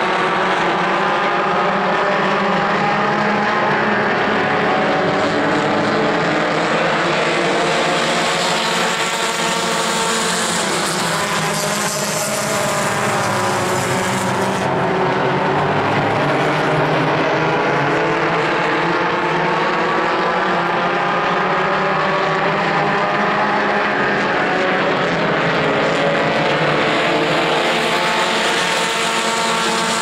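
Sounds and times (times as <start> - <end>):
race car engines droning: 0.0 - 30.0.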